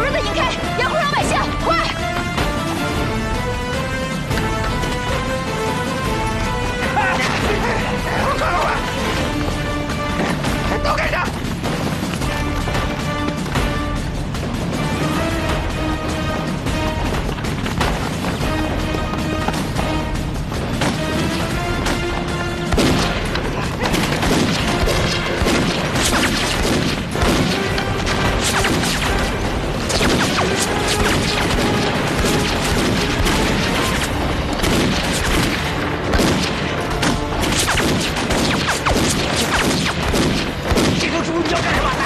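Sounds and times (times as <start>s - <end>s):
background music: 0.0s - 42.0s
gunfire and booms: 6.8s - 42.0s.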